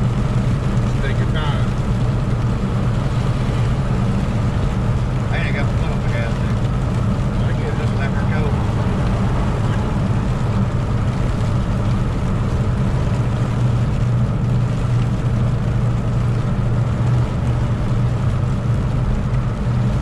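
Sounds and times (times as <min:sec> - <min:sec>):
road noise: 0:00.0 - 0:20.0
truck diesel engine droning: 0:00.0 - 0:20.0.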